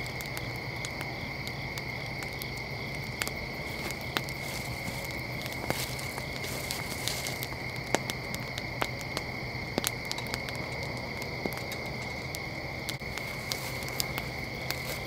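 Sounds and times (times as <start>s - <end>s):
crickets trilling: 0.0s - 15.0s
sharp clicks and crackles: 2.2s - 15.0s.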